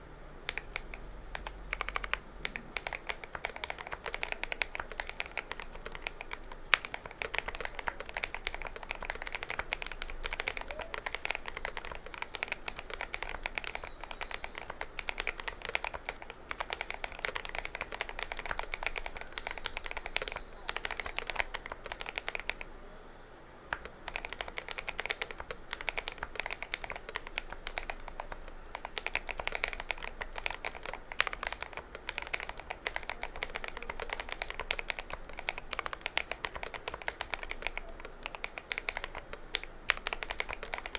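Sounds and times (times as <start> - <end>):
mechanical keyboard typing: 0.4 - 22.7, 23.7 - 40.9.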